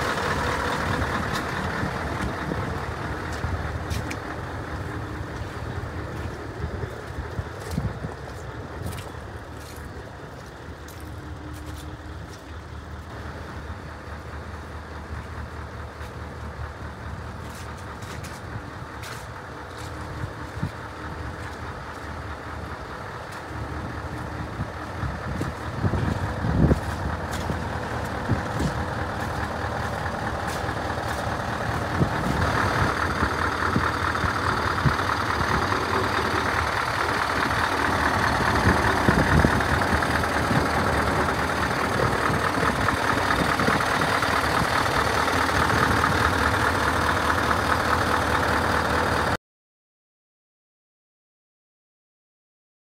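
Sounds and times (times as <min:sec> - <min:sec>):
diesel truck engine idling: 0:00.0 - 0:49.4.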